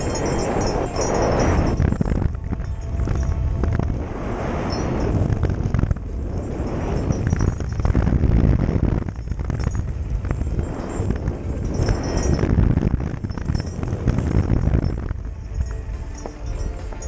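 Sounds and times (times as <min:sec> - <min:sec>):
bike tyres rumbling: 0:00.0 - 0:17.0
wind on microphone: 0:00.0 - 0:17.0.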